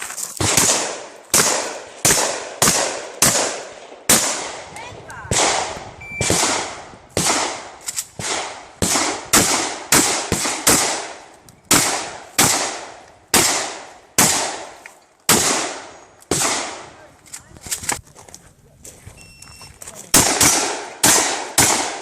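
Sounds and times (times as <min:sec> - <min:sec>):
loud shotgun shots: 0:00.4 - 0:04.7, 0:05.3 - 0:16.9, 0:20.1 - 0:22.0.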